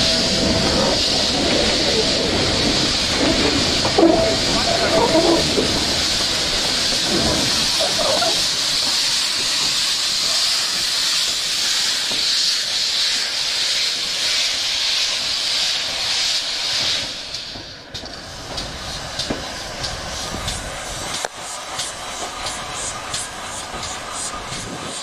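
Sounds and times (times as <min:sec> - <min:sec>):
steam hissing: 0:00.0 - 0:25.0.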